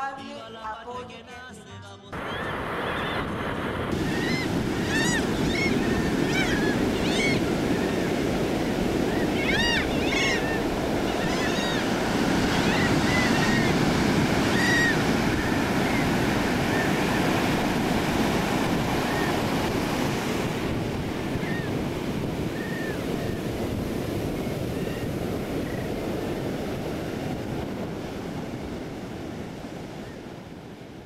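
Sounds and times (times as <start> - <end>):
surf washing onto sandy beach: 2.2 - 29.9.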